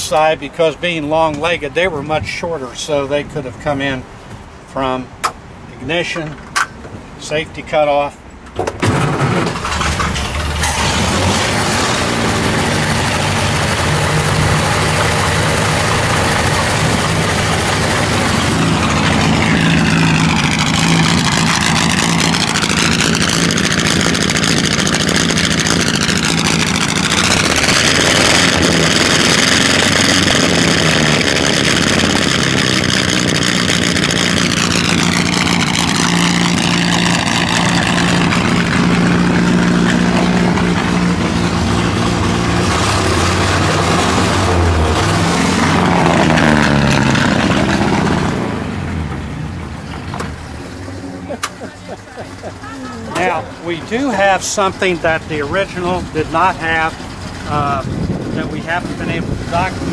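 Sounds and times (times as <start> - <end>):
race car engine idling: 9.1 - 59.9.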